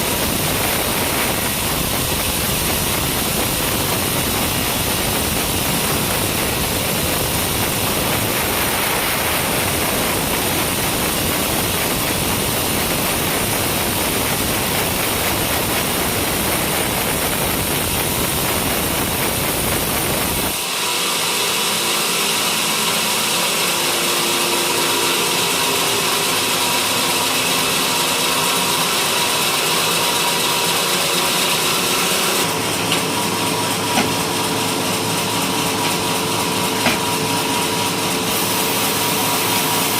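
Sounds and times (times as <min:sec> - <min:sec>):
sawmill sawing wood: 0:00.0 - 0:39.9
steady multi-tone whine: 0:00.0 - 0:39.9.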